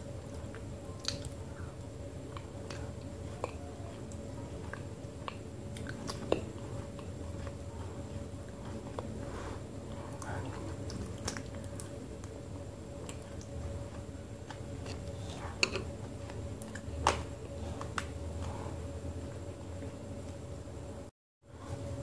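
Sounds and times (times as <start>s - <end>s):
mouth chewing wet clay paste: 0.1s - 20.0s.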